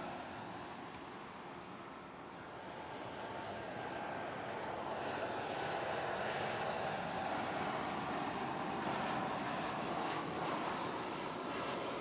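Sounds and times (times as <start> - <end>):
jet engines of airliner: 0.0 - 12.0.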